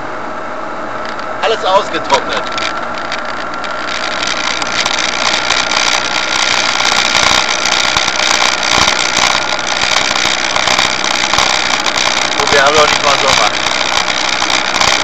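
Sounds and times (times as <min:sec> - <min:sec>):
car engine running: 0:00.0 - 0:15.0
road noise inside car: 0:00.0 - 0:15.0.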